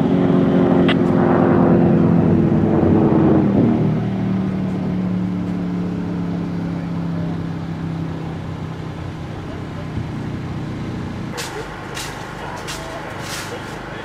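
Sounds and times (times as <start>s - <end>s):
race car engine running hard: 0.0s - 14.0s.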